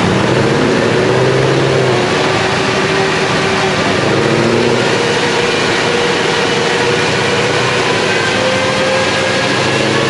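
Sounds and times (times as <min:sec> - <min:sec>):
car engine running on a dyno: 0:00.0 - 0:10.0.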